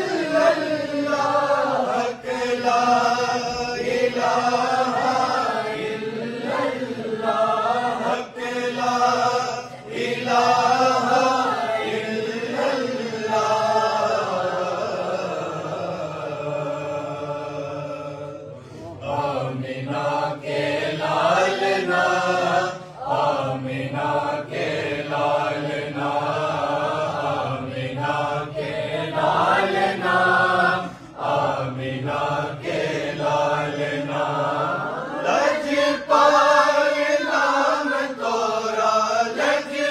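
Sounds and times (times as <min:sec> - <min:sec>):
men and boys chanting in unison: 0:00.0 - 0:39.9.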